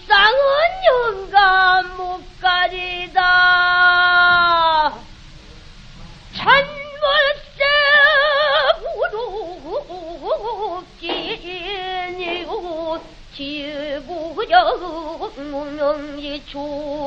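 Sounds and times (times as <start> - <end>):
woman singing a lament: 0.0 - 5.1, 6.4 - 17.0.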